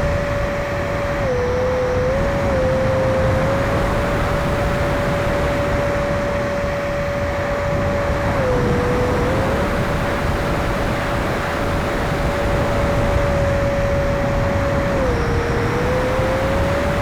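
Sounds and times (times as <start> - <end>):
electric ducted fan whining: 0.0 - 17.0.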